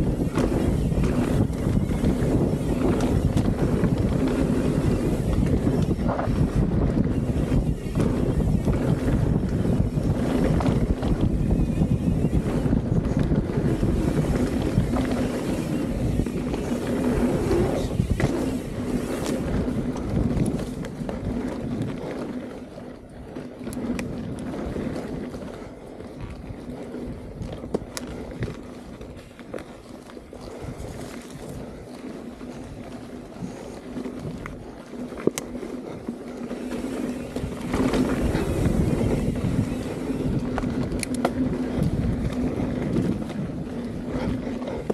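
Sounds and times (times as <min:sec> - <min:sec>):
bike clicks and knocks: 0:00.0 - 0:44.9
tyres rolling over dirt: 0:00.0 - 0:44.9
wind buffeting microphone: 0:00.0 - 0:44.9.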